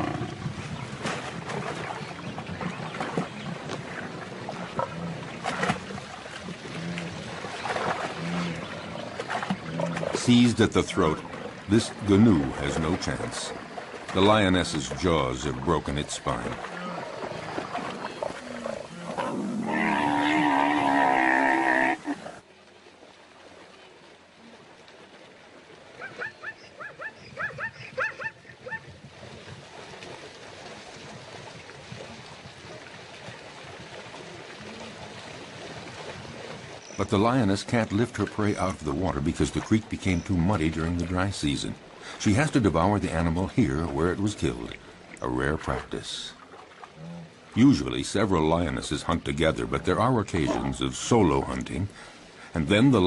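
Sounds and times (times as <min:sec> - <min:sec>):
water splashing and sloshing: 0:00.0 - 0:53.0.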